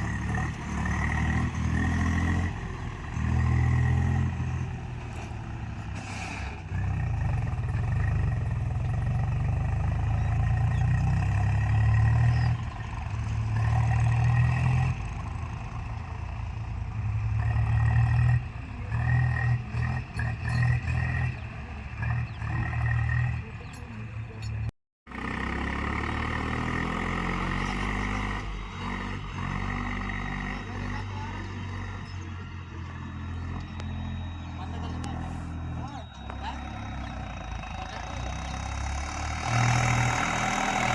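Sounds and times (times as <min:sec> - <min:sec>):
diesel machinery engine revving: 0:00.0 - 0:40.9.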